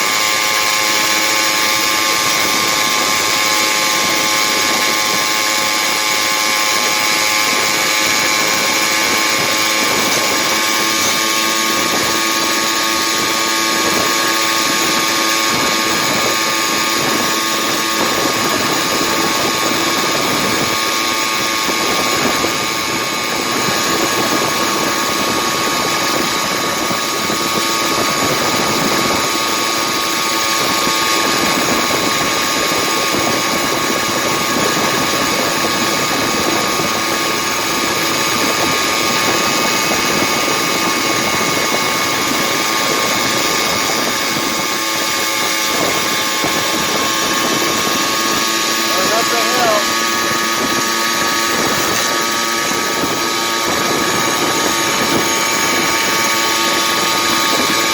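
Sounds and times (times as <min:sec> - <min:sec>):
two-stroke engine at high revs: 0:00.0 - 0:57.9.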